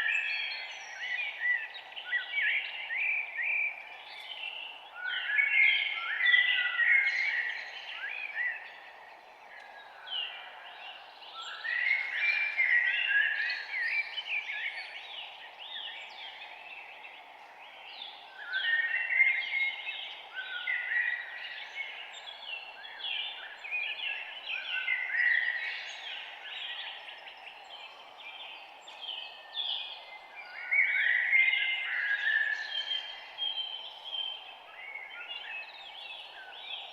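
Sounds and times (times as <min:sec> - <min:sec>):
songbirds chirping and singing: 0:00.0 - 0:36.9.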